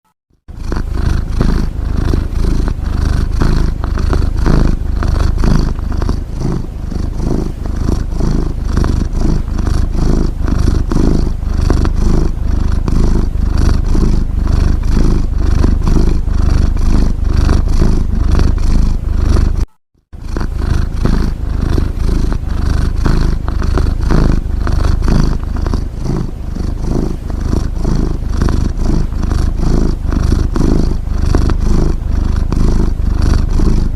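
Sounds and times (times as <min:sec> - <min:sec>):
cat purring: 0:00.3 - 0:33.9.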